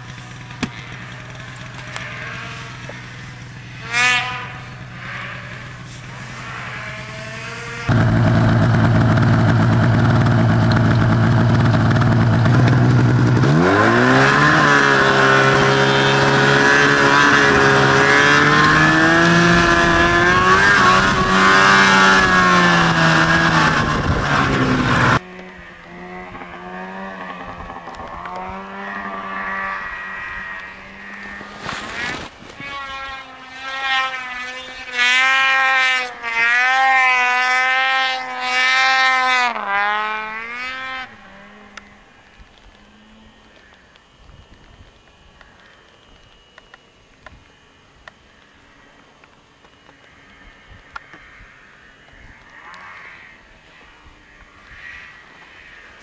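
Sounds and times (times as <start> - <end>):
snowmobile engine revving: 0.0 - 43.8, 52.3 - 56.0.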